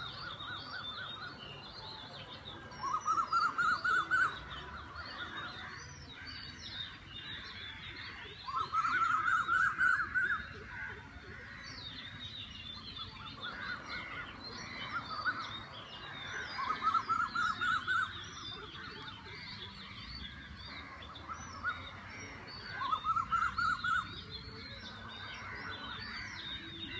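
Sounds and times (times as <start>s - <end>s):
many birds chirping and whistling: 0.0s - 26.9s.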